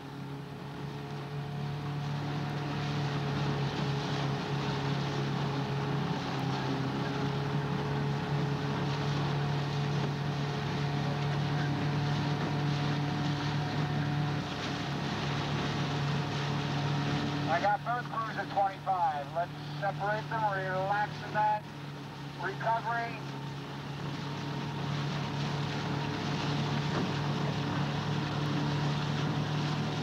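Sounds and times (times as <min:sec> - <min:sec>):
boat motor humming: 0:00.0 - 0:30.0.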